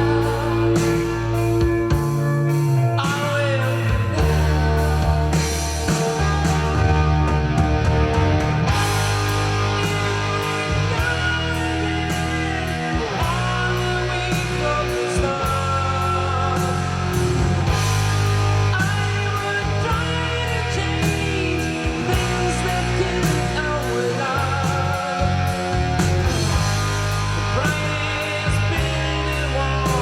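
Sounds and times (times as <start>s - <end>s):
rock music with electric guitar: 0.0s - 30.0s.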